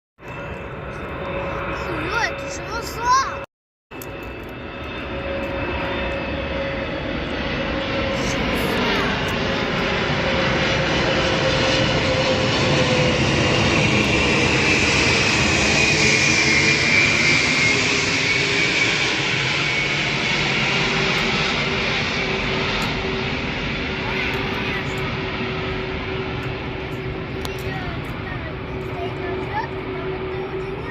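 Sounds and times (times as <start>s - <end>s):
jet aircraft landing: 0.2s - 30.9s.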